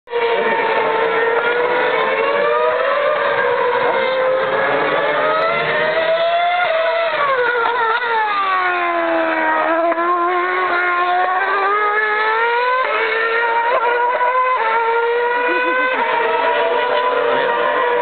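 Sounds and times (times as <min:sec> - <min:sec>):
racing car engine at high revs: 0:00.1 - 0:18.0.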